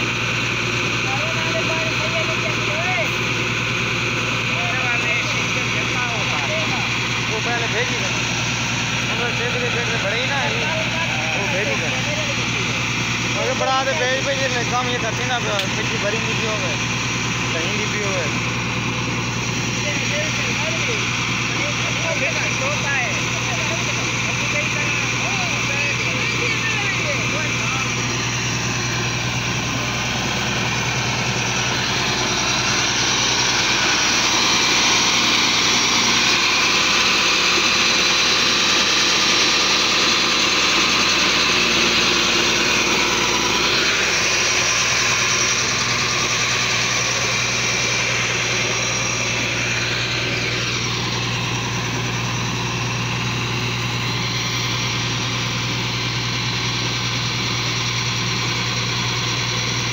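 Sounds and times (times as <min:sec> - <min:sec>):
clay mixer mechanical rumble: 0:00.0 - 0:59.9
tractor diesel engine running: 0:00.0 - 0:59.9.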